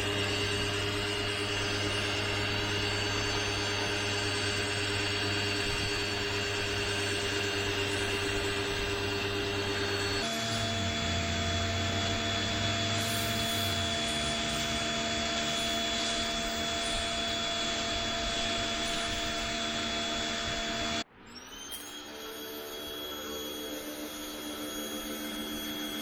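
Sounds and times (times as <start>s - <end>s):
pressure washer running: 0.0s - 21.0s
rising whine: 0.0s - 26.0s.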